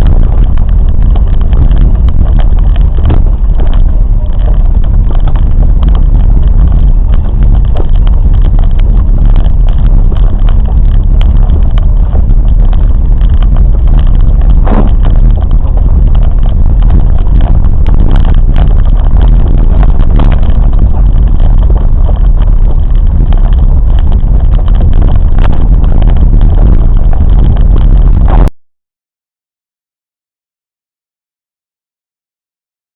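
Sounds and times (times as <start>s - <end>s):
train rumbling: 0.0s - 28.4s.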